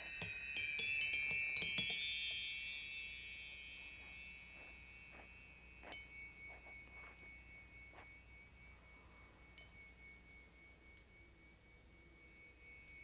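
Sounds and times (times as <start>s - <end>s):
bell-like chimes: 0.0s - 13.0s.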